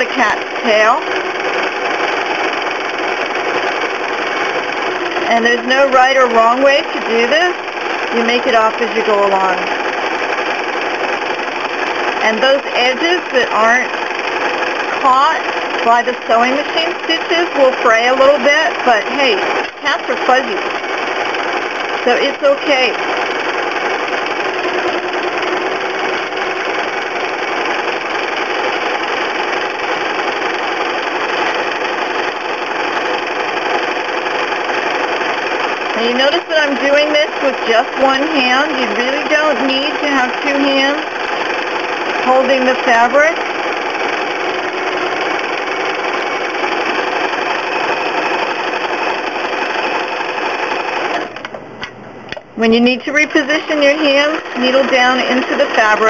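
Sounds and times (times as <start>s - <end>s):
sewing machine running: 0.0s - 51.6s, 52.8s - 56.0s.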